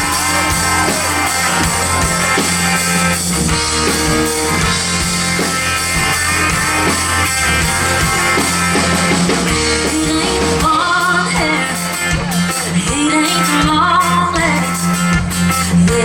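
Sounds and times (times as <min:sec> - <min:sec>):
country-rock band playing: 0:00.0 - 0:16.0.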